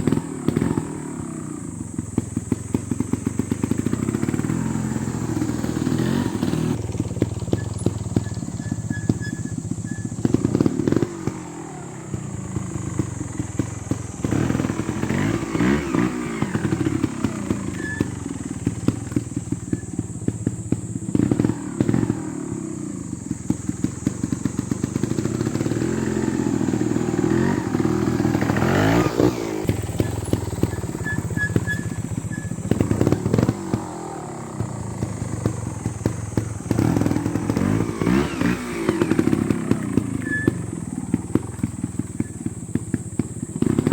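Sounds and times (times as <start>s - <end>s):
motorcycle engine throttle blips: 0.0s - 43.9s.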